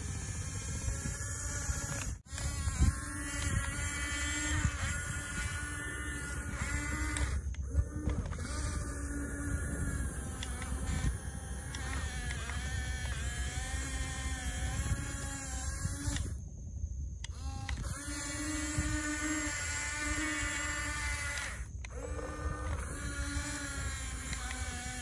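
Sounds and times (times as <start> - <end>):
electric motors whining: 0.0 - 16.5, 17.1 - 25.0.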